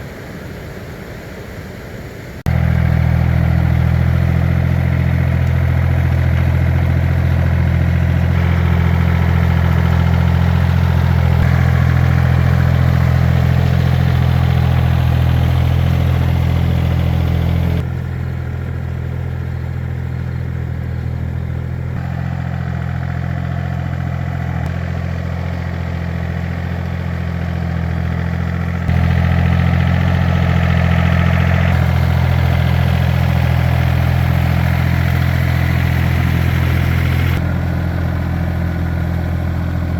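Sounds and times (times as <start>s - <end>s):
tractor engine running: 2.5s - 39.9s.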